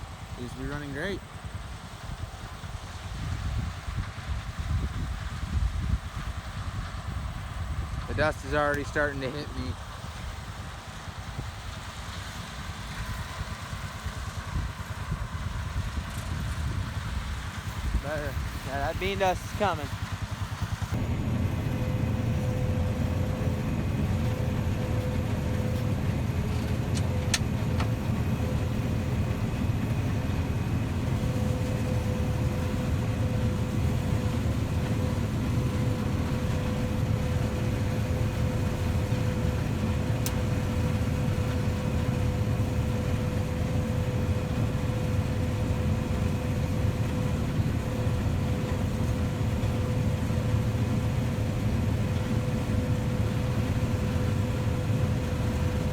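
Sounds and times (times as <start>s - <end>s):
tractor engine drone: 0.0s - 55.9s.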